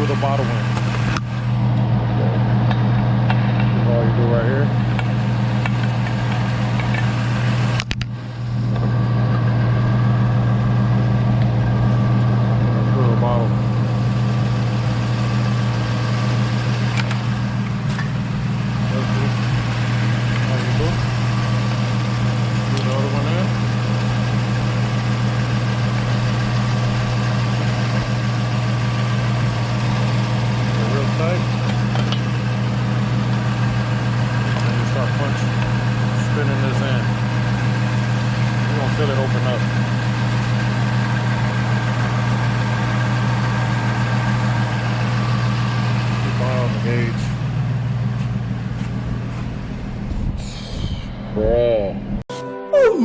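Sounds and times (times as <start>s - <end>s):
car engine idling: 0.0s - 52.1s
air conditioning running: 0.0s - 52.2s.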